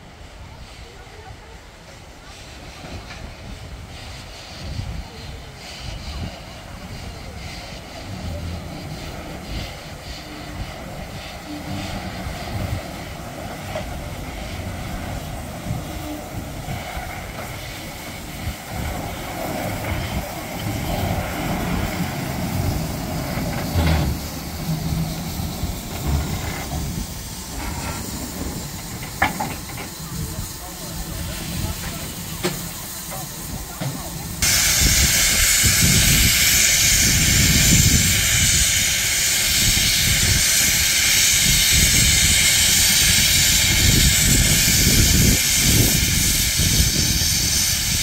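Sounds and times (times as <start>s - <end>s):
steam locomotive rumble: 0.0s - 48.0s.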